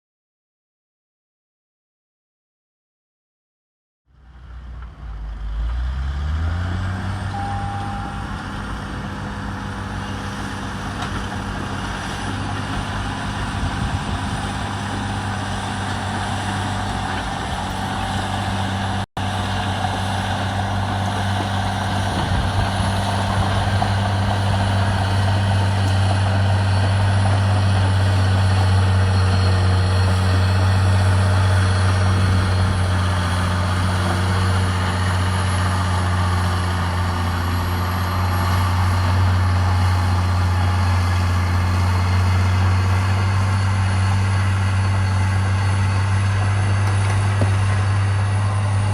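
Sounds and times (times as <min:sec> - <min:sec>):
bulldozer diesel engine under load: 0:04.1 - 0:48.9.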